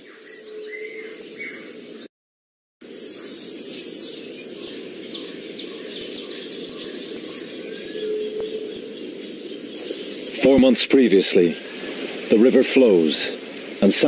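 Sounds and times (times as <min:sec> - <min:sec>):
bird chirps: 0:00.0 - 0:02.1, 0:03.0 - 0:13.9
insect drone with high whine: 0:00.0 - 0:02.1, 0:02.8 - 0:14.0.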